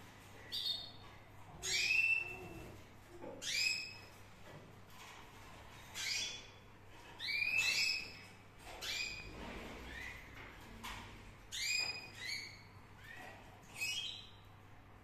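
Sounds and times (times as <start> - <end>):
canary chicks cheeping: 0.1 - 4.2, 4.9 - 14.6.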